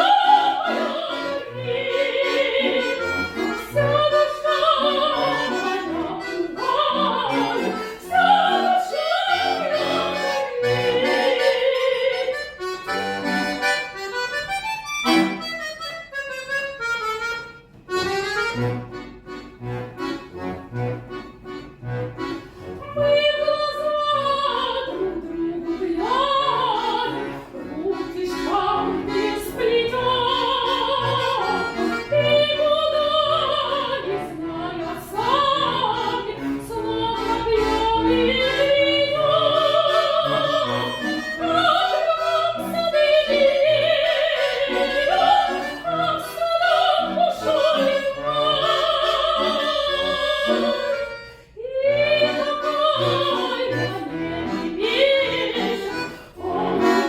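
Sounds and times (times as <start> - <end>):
classical solo singing with vibrato: 0.0 - 12.4, 22.8 - 57.0
button accordion chords: 0.0 - 57.0.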